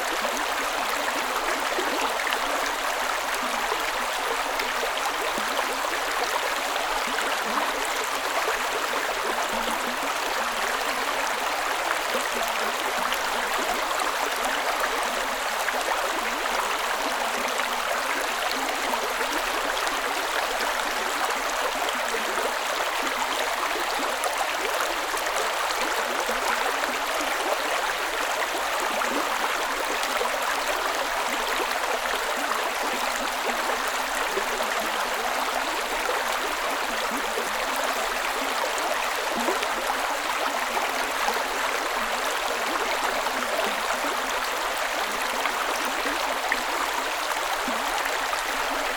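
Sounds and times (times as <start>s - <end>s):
creek water cascading over rocks: 0.0s - 48.9s.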